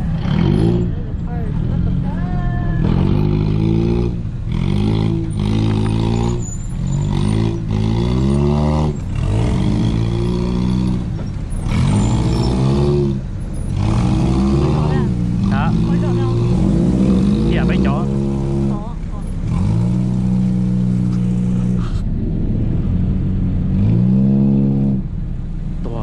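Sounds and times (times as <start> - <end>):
buggy engine revving under load: 0.0 - 26.0.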